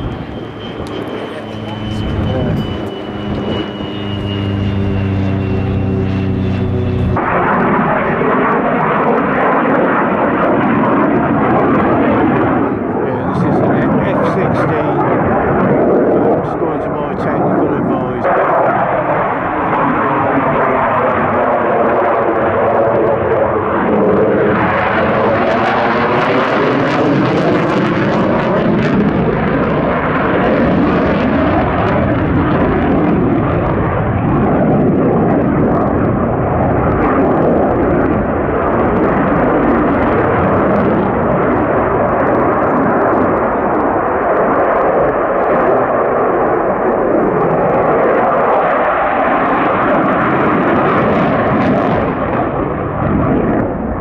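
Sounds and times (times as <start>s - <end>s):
aircraft engine passing overhead: 0.0s - 54.0s.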